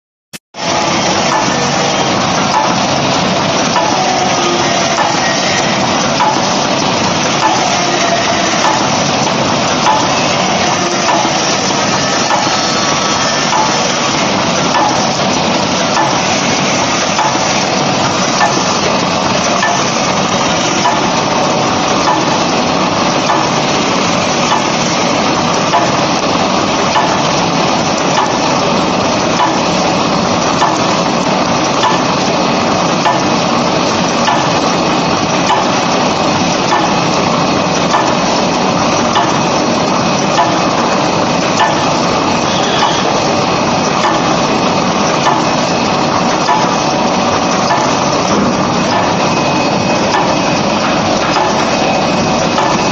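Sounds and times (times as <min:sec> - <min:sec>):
machine mechanical clatter: 0:00.6 - 0:52.9.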